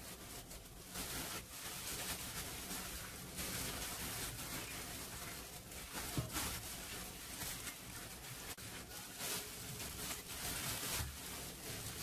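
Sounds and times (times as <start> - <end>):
plastic glove crinkle: 0.0 - 12.0.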